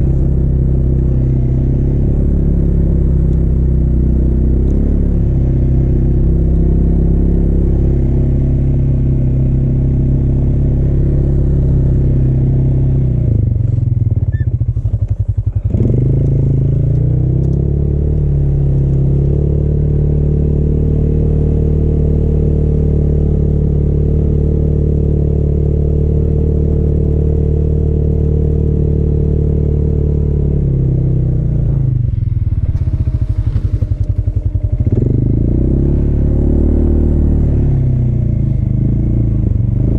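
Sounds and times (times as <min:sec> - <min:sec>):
vehicle engine driving through snow: 0:00.0 - 0:39.9.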